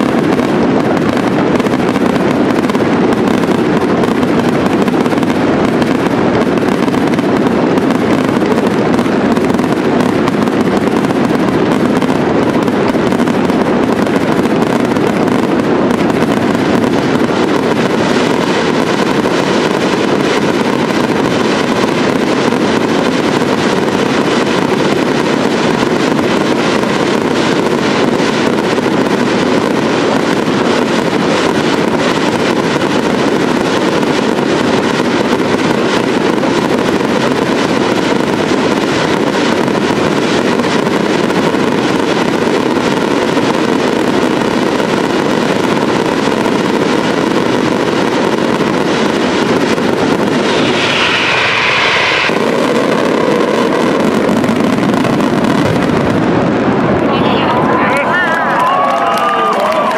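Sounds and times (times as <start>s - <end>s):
dense fine crackling: 0.0s - 59.9s
fireworks bursts and crackle: 0.0s - 59.9s.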